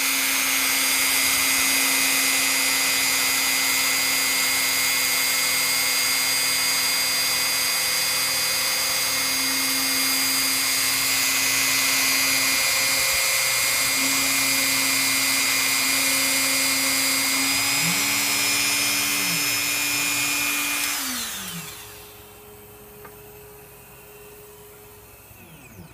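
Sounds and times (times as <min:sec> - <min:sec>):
electric motor whining: 0:00.0 - 0:25.9
motor winding down: 0:00.0 - 0:25.9.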